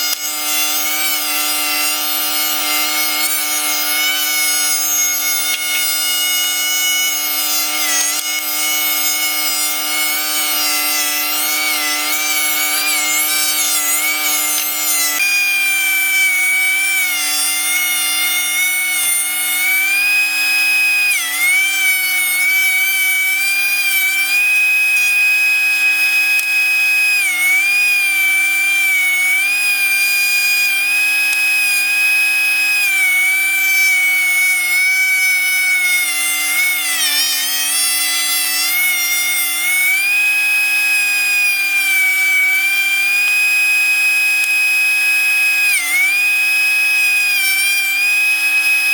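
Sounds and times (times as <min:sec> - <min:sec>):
thickness planer planing boards: 0:00.0 - 0:48.9.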